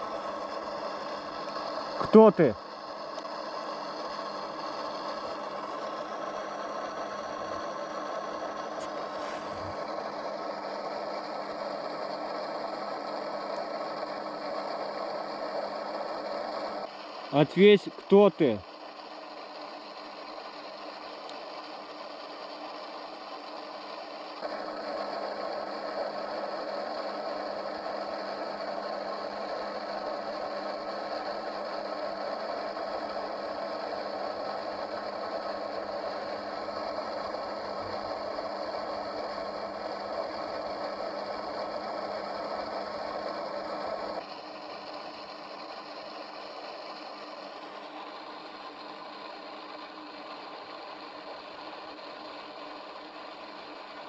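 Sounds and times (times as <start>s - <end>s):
electronic hiss and hum: 0.0s - 54.0s.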